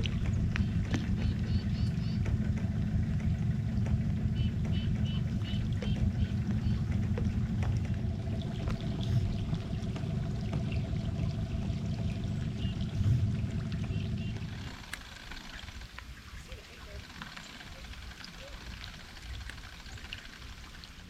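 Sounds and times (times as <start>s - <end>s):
boat motor rumbling: 0.0s - 21.0s
water around hull: 0.0s - 21.0s.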